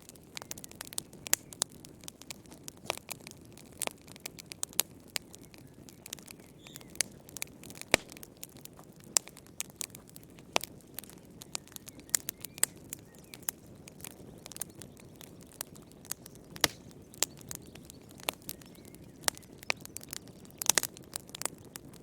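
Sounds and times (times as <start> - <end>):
low fire hiss: 0.0 - 22.0
wood fire crackling: 0.0 - 22.0.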